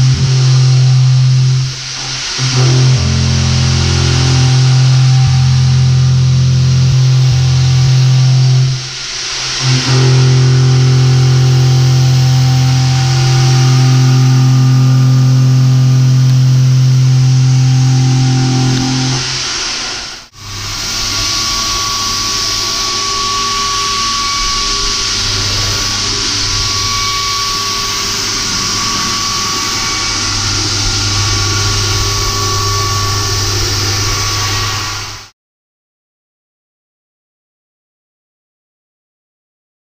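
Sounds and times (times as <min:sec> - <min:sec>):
cutting noise with high tone: 0:00.0 - 0:35.3
milling machine drone: 0:00.0 - 0:35.3.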